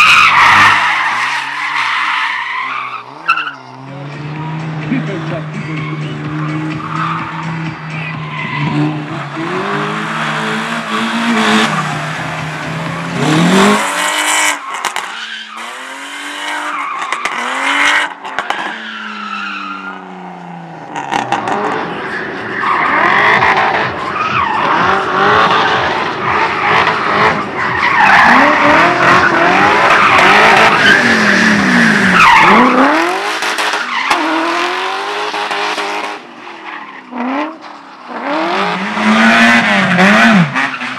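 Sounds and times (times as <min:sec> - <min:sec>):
racing car engines revving: 0:00.0 - 0:40.9.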